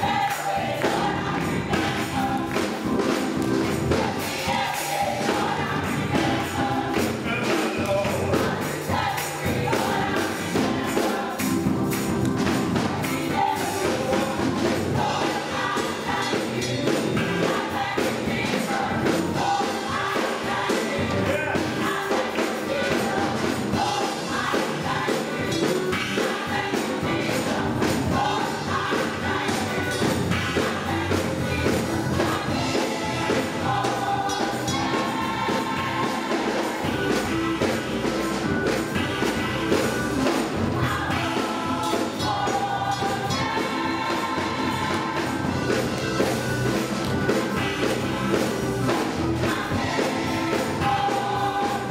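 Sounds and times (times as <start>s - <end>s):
gospel choir singing: 0.0s - 51.9s
instrumental accompaniment with beat: 0.0s - 51.9s.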